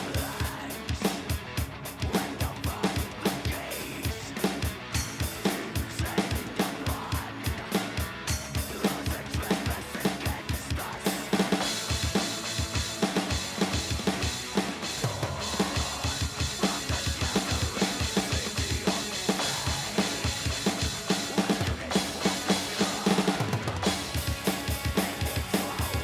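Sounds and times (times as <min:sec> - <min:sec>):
rapid kick drum strokes: 0:00.0 - 0:26.0.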